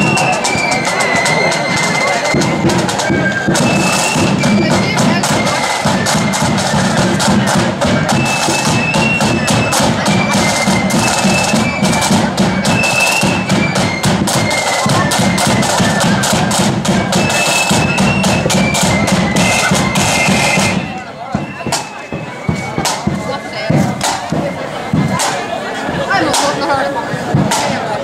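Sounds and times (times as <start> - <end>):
shrill flutes playing melody: 0.0 - 25.8
rapid side drum strokes: 0.0 - 28.0.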